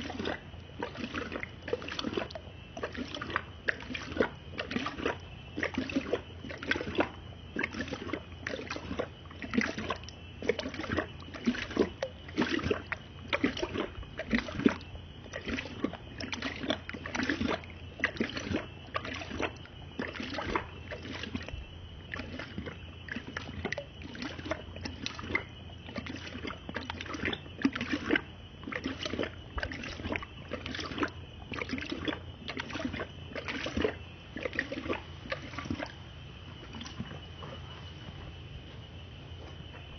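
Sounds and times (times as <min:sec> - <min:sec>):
dog lapping water: 0:00.0 - 0:38.0.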